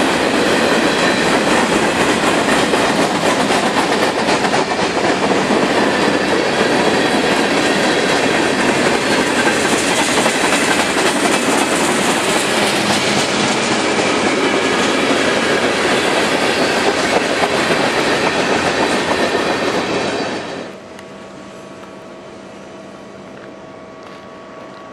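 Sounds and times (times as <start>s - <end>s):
freight train rumbling past: 0.0s - 24.5s.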